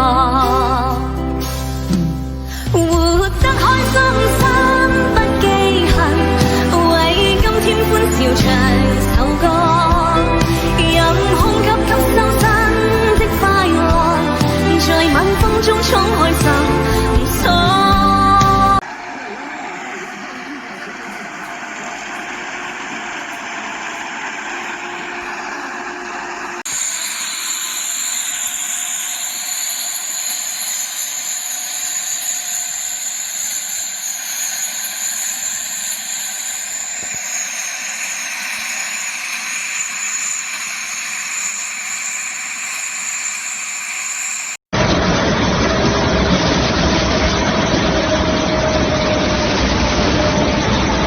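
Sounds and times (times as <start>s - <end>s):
harvester running: 0.0s - 51.0s
steady high whine: 0.6s - 51.0s.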